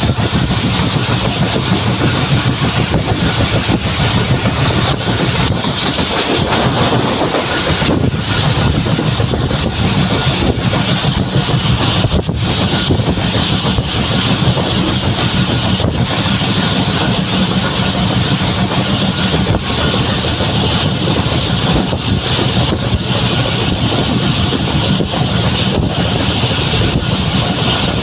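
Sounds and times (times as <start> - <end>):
train wheels rumbling on rails: 0.0 - 28.0
wind rushing over microphone: 0.0 - 28.0.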